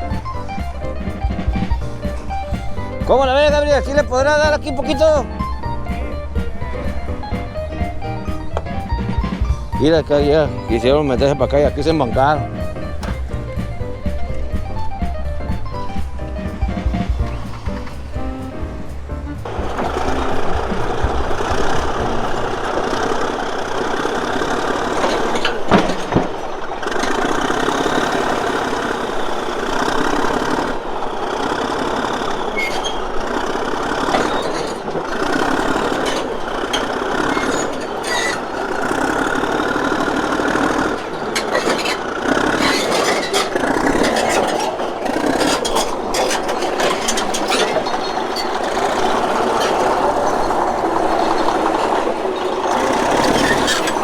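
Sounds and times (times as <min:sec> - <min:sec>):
heavy diesel engine running: 0:00.0 - 0:54.0
sharp knocks and clanks: 0:00.0 - 0:54.0.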